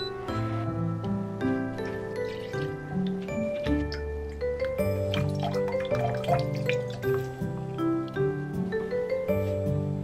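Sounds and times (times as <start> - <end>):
light melody of ringing notes: 0.0 - 10.0.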